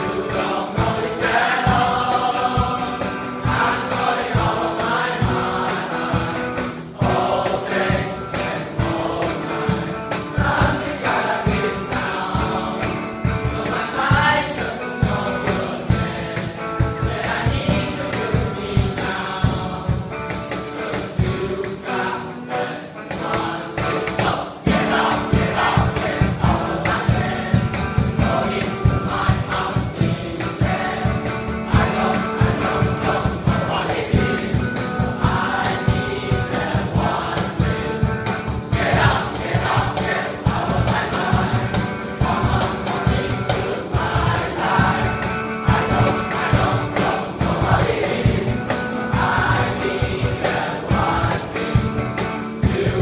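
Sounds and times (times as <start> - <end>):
boys singing in chorus: 0.0 - 53.0
cajon beat: 0.0 - 53.0.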